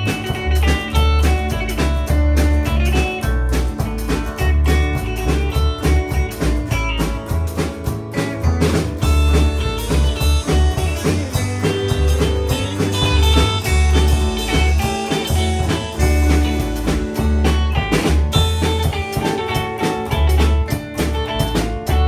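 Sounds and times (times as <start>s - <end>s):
deep bass notes: 0.0s - 22.0s
steady drum beat: 0.0s - 22.0s
strummed guitar: 0.0s - 22.0s.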